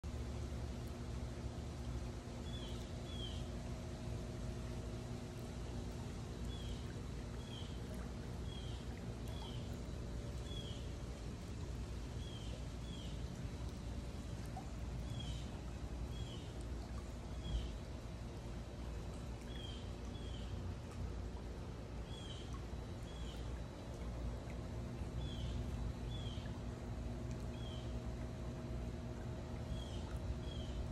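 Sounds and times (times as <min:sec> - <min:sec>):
low outdoor rumble and hum: 0:00.0 - 0:30.9.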